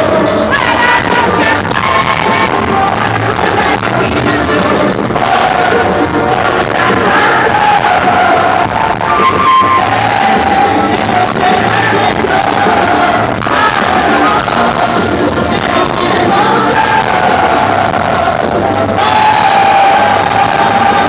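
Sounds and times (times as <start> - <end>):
live band with singing: 0.0 - 21.0.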